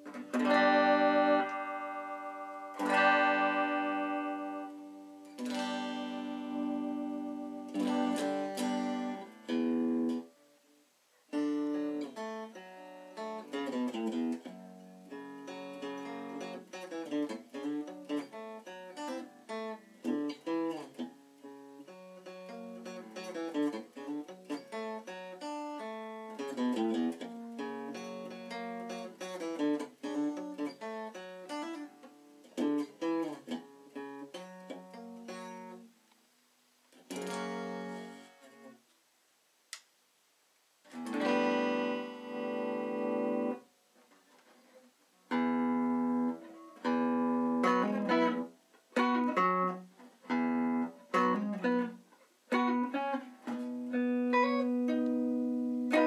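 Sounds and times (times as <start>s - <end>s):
electric guitar playing: 0.0s - 10.3s, 11.3s - 35.9s, 37.1s - 38.8s, 40.9s - 43.7s, 45.3s - 56.0s.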